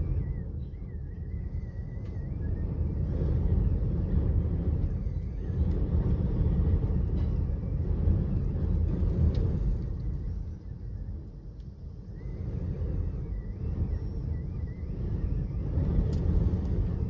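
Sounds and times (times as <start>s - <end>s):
gusting wind on microphone: 0.0s - 17.0s.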